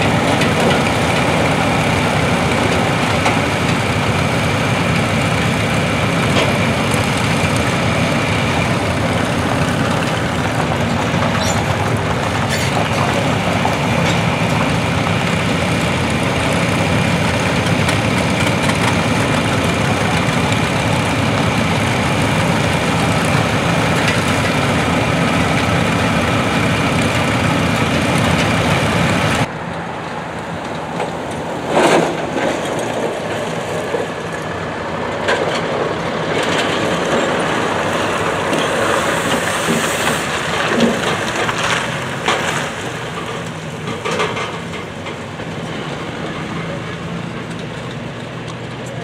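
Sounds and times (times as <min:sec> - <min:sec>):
passing tractors and trucks: 0:00.0 - 0:49.0
tractor engines idling: 0:00.0 - 0:49.0.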